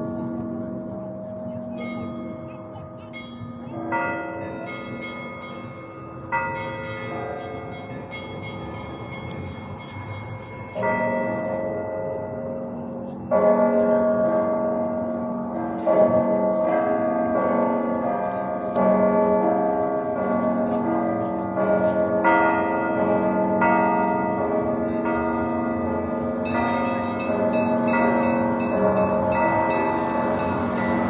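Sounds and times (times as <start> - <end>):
large church bells ringing: 0.0 - 31.0.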